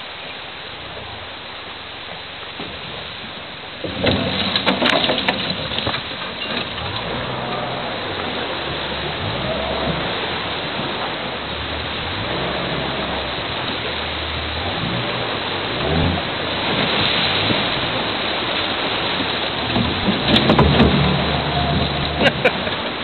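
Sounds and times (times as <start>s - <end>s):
rushing river water: 0.0s - 23.0s
boat motor running: 0.9s - 23.0s.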